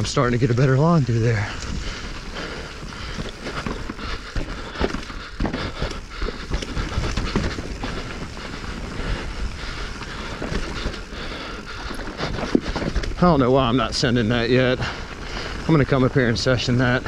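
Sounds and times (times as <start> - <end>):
bike chain and frame rattling: 0.0 - 17.0
wind and rolling noise: 0.0 - 17.0.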